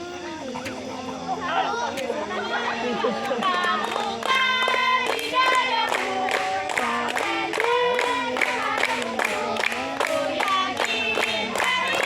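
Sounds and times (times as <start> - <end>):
several voices singing: 0.0 - 12.0.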